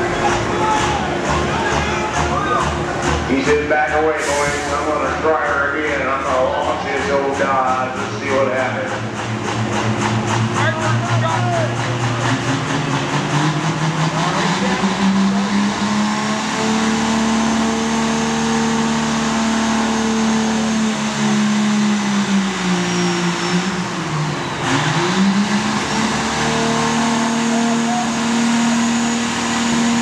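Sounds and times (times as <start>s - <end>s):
diesel engine at high revs: 0.0s - 30.0s.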